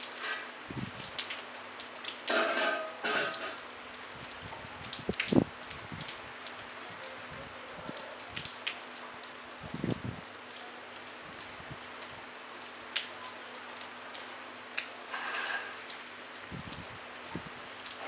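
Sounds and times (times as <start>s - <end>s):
light rain falling: 0.0s - 18.0s
raindrops ticking: 0.0s - 18.0s.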